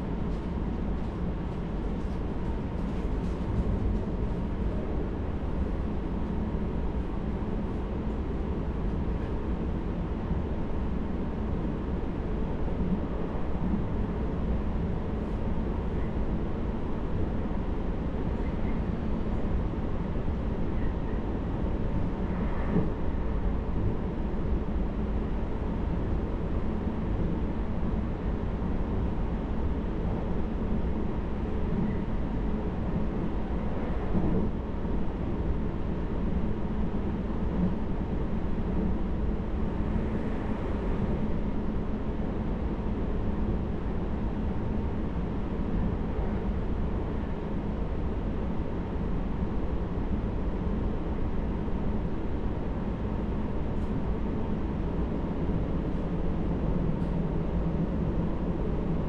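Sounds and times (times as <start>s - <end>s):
train running noise inside car: 0.0s - 59.0s.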